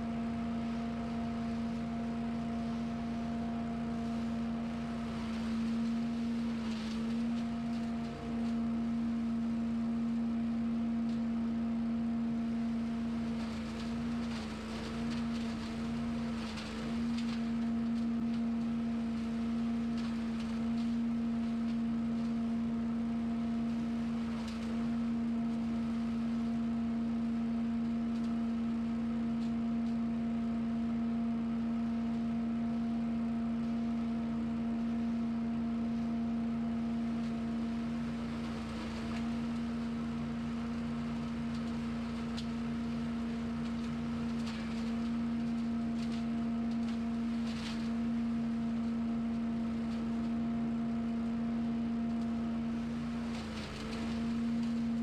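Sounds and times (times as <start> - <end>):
small gasoline engine running: 0.0 - 10.4, 12.3 - 27.2, 35.8 - 55.0.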